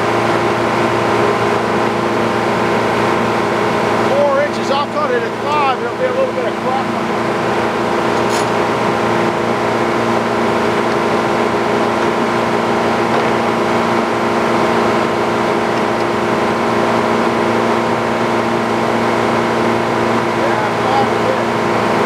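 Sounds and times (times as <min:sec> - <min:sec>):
sawmill engine drone: 0:00.0 - 0:22.0.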